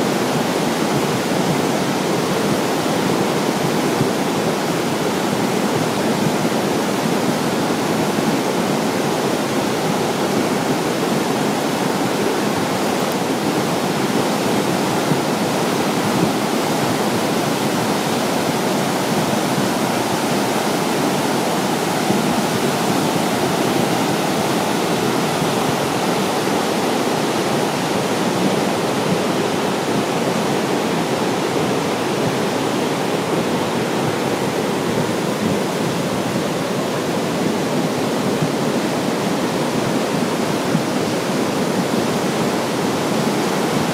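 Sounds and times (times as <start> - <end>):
creek water rushing over gravel: 0.0 - 43.9.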